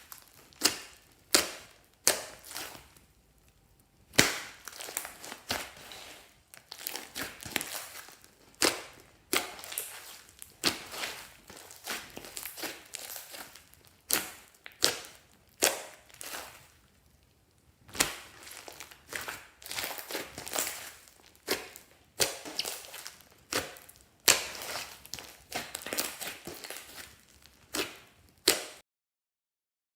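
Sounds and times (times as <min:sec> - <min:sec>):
slime squishing with wet pops: 0:00.0 - 0:28.8.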